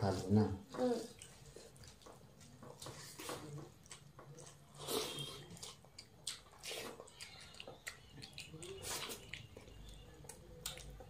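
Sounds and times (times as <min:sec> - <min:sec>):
chewing and mouth smacks: 0:01.1 - 0:11.0
fingers squishing food: 0:01.2 - 0:11.0.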